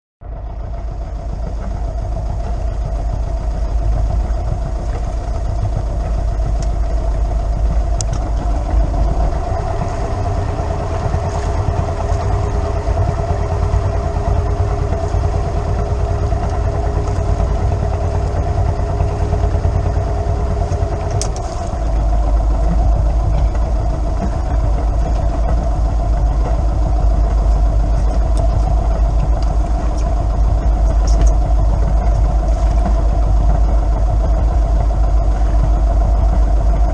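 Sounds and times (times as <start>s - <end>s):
engine running steadily: 0.2s - 36.9s
steady hum: 0.2s - 36.9s.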